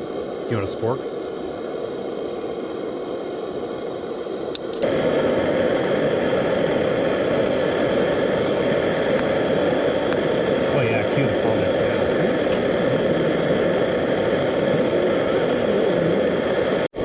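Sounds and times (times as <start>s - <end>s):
gas burner hissing: 0.0s - 17.0s.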